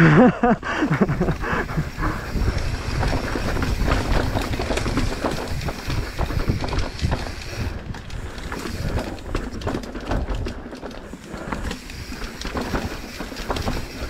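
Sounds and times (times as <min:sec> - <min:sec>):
mountain bike rattling: 0:00.1 - 0:14.0
tyres rolling over dirt and stones: 0:00.8 - 0:14.0.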